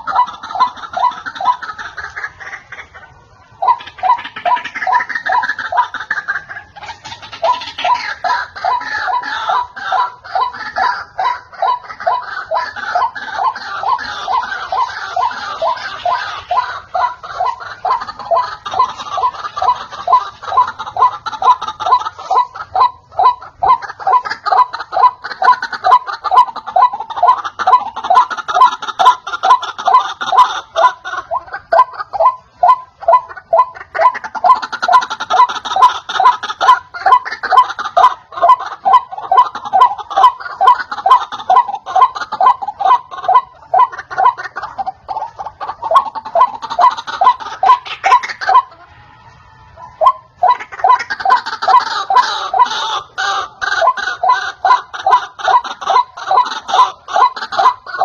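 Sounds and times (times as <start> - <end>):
bird chattering: 0.0 - 58.0
waterhen harsh calls: 0.0 - 58.0.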